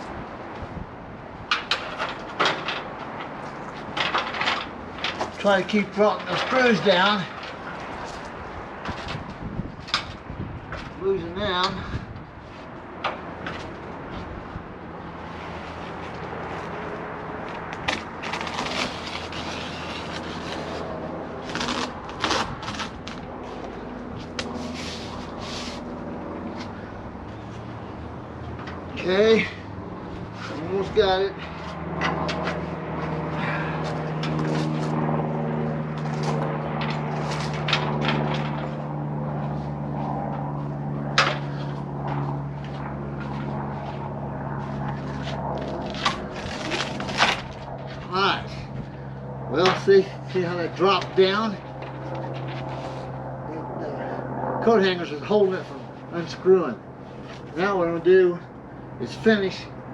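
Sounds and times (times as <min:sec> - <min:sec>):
low mechanical hum: 0:00.0 - 0:59.9
steady motor drone: 0:00.0 - 0:59.9.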